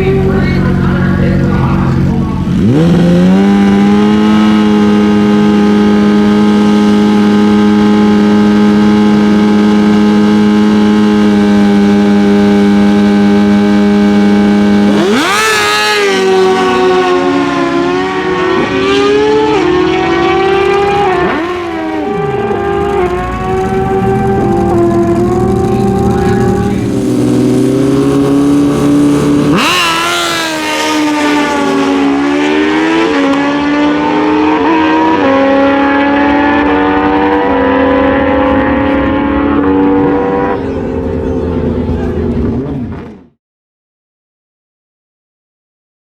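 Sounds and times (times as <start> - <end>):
motorcycle engine revving: 0.0 - 43.4.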